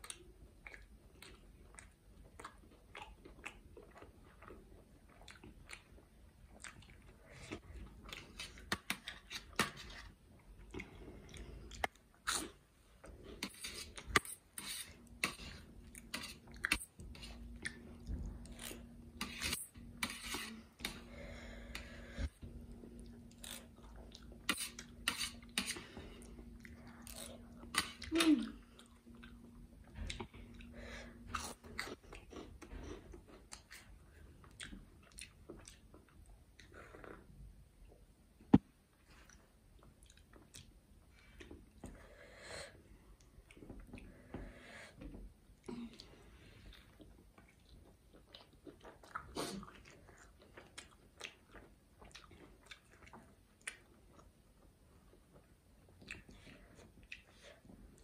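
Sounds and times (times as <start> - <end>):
chewing with wet mouth sounds: 0.0 - 38.1, 38.9 - 42.0, 42.9 - 58.0.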